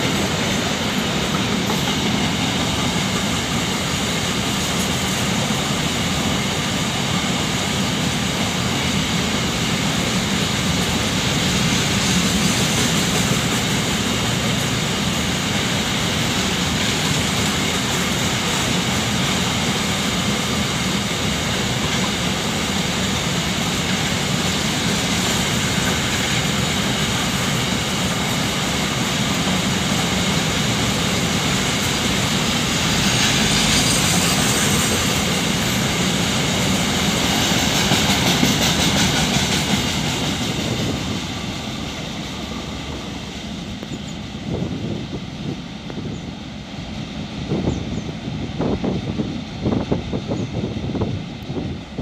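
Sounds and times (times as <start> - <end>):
freight train wheels rumbling and rattling: 0.0 - 52.0.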